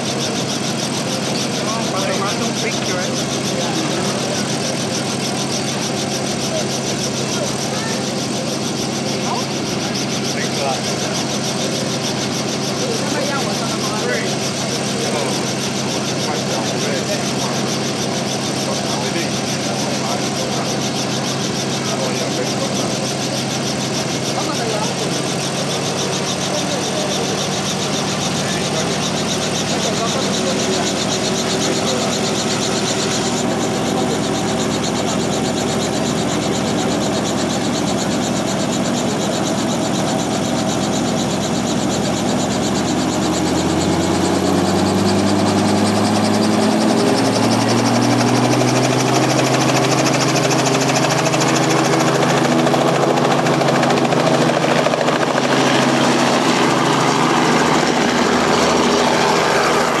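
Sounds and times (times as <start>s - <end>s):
helicopter engine and rotor: 0.0s - 60.0s.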